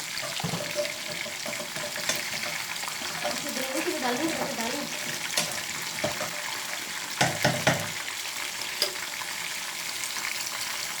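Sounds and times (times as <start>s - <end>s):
food deep frying in oil: 0.0s - 11.0s.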